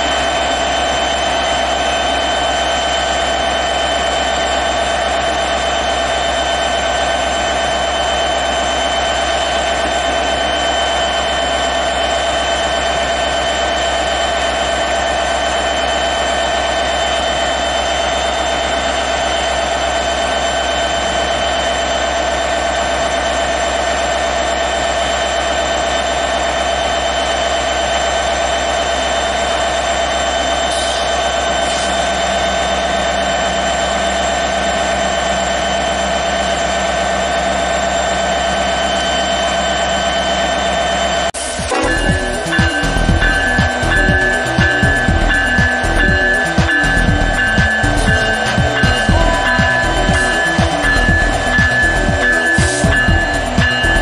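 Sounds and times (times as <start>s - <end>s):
diesel locomotive engine drone: 0.0s - 54.0s
high whining tones: 0.0s - 54.0s.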